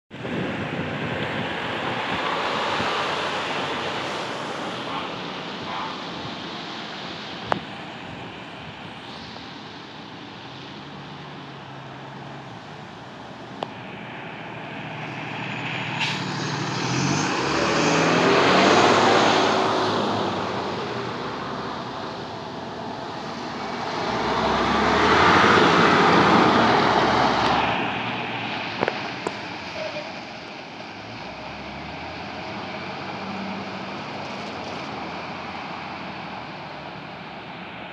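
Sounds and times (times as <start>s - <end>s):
diesel engines running: 0.1s - 37.9s
tyres hissing on wet road: 0.3s - 37.9s.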